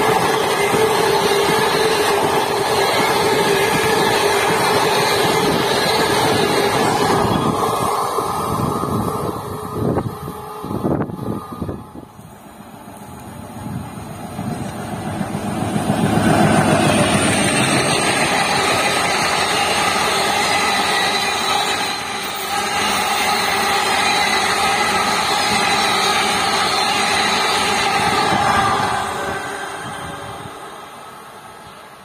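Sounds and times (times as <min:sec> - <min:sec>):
diesel train passing at speed: 0:00.0 - 0:32.0.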